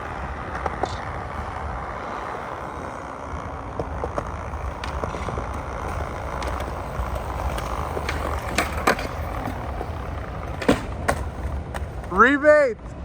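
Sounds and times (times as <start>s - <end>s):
skateboard clacking on ground: 0.0s - 12.4s
skateboard wheels rolling on concrete: 0.0s - 13.0s.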